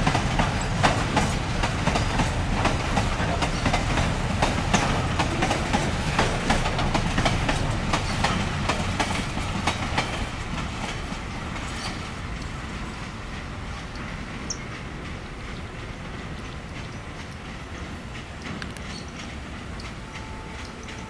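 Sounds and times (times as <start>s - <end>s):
train rumble: 0.0s - 21.0s
wagon wheels clattering on rails: 0.0s - 21.0s.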